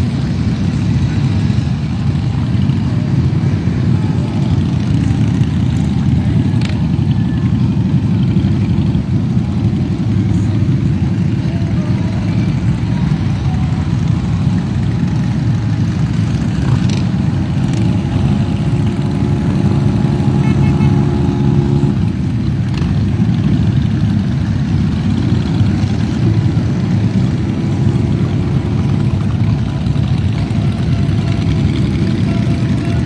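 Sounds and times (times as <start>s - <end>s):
motorcycle engines rumbling: 0.0s - 33.0s.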